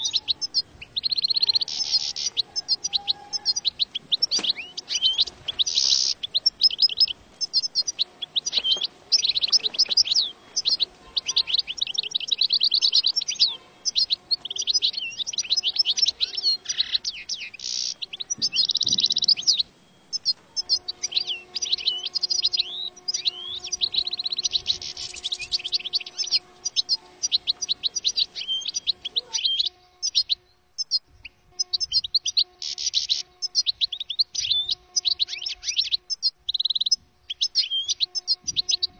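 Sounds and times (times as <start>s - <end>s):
faint steady hum: 0.0s - 38.9s
goldfinch song: 0.0s - 38.9s.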